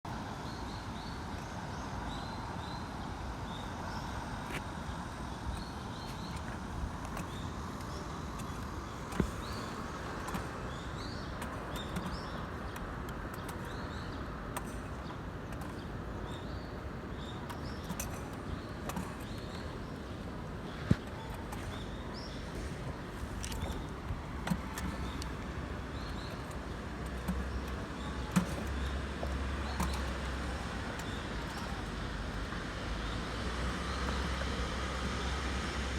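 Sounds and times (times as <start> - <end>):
outdoor background noise: 0.1 - 35.9
small birds chirping: 0.3 - 35.9.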